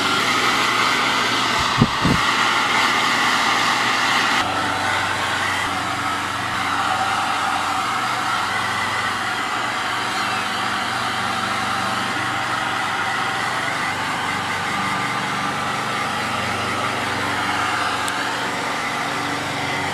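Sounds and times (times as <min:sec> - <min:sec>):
hair dryer running: 0:00.0 - 0:19.9.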